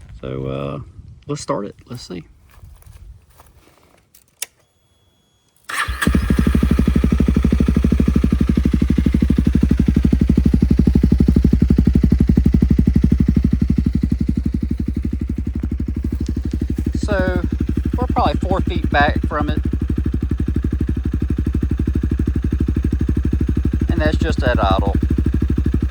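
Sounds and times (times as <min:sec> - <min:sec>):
motorcycle engine starting and idling: 0:04.2 - 0:25.9.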